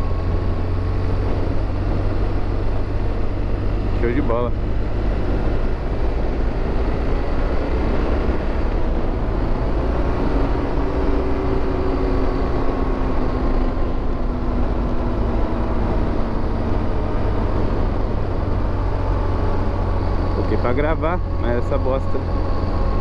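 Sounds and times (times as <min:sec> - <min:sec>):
motorcycle engine drone: 0:00.0 - 0:23.0
wind rush on microphone: 0:00.0 - 0:23.0.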